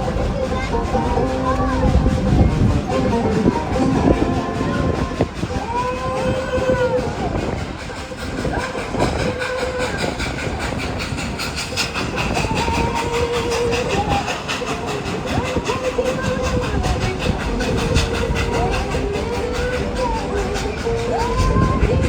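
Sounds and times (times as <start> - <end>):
train clattering on track: 0.0 - 22.0.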